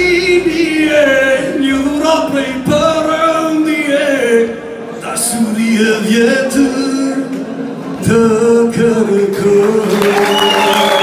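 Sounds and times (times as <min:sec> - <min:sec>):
man singing into microphone: 0:00.0 - 0:11.0.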